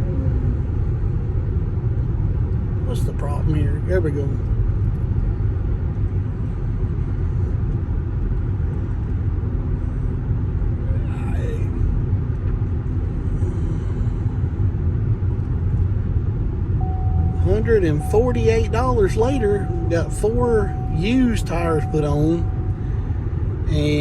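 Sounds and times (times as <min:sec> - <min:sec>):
road and tire roar in car cabin: 0:00.0 - 0:24.0.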